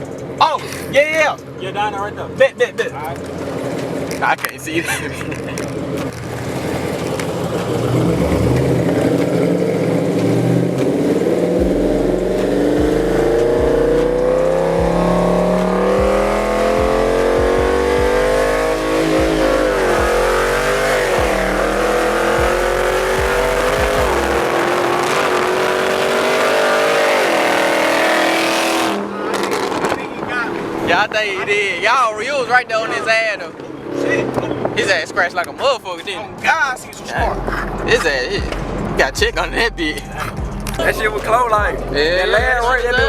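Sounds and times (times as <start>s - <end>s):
car engine accelerating: 0.0s - 36.1s, 36.8s - 43.0s.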